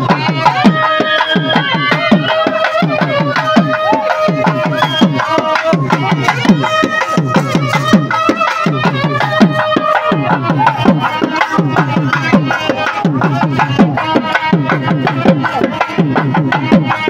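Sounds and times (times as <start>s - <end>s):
fast drumming with pitch bends: 0.0s - 17.0s.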